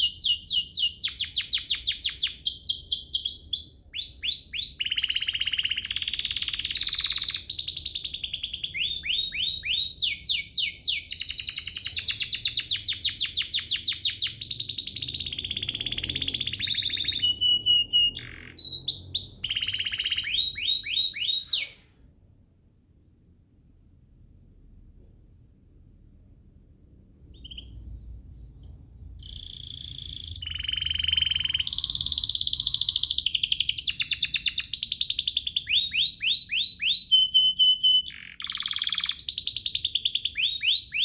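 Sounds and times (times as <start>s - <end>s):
canary singing rapid trills: 0.0s - 21.8s, 27.3s - 41.0s.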